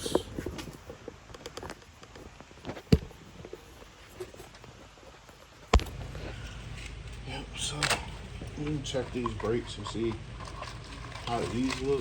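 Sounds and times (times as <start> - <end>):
parts and tools clicking and rustling: 0.0 - 12.0.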